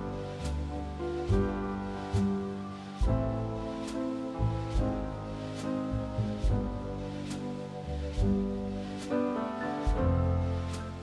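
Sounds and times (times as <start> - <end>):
background music with soft beats: 0.0 - 11.0.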